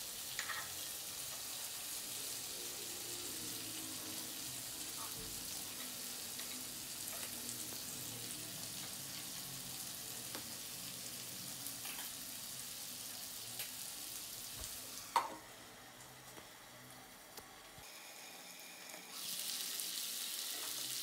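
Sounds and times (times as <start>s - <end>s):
chicken sizzling in oil: 0.0s - 15.8s, 16.5s - 21.0s.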